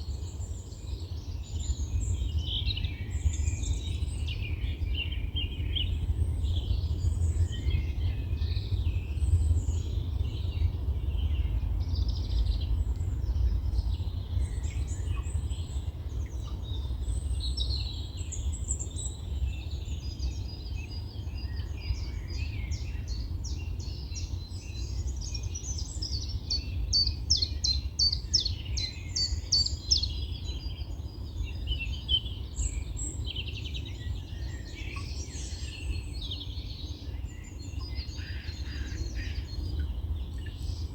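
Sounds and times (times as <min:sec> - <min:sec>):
wind rumble on microphone: 0:00.0 - 0:40.9
birds singing and calling: 0:00.1 - 0:40.9.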